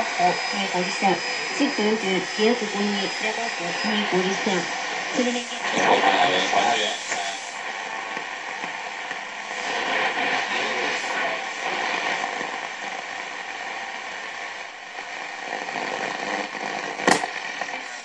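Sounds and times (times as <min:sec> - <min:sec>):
faint radio broadcast: 0:00.0 - 0:18.0
radio static and hiss: 0:00.0 - 0:18.0.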